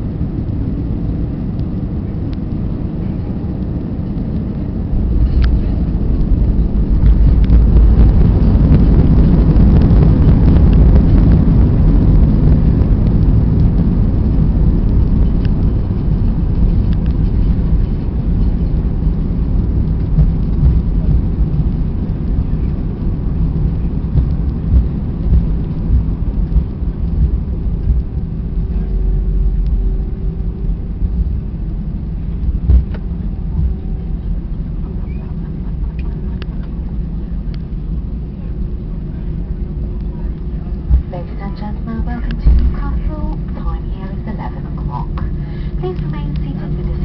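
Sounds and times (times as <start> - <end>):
aircraft cabin rumble: 0.0 - 47.0.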